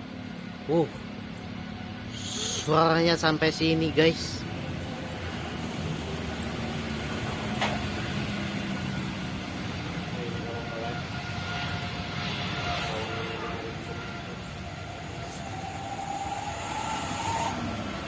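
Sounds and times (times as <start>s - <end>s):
distant jet engine rumble: 0.0s - 18.0s.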